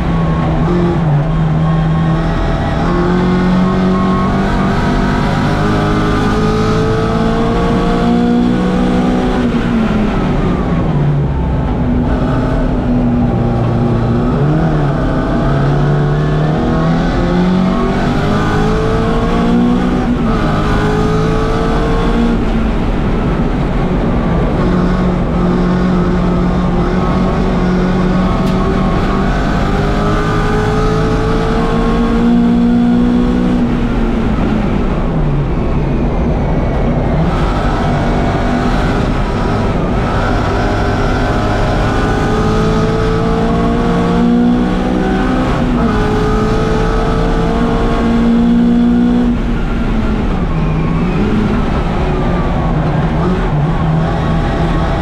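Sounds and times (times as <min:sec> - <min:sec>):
car engine revving hard: 0:00.0 - 0:35.2, 0:36.8 - 0:55.0.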